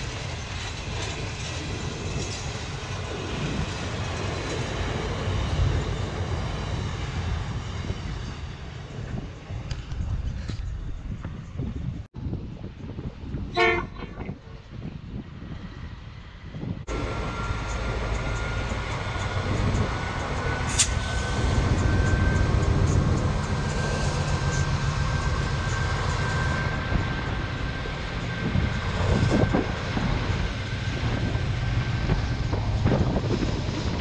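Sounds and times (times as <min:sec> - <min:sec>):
diesel locomotive rumble: 0:00.0 - 0:34.0.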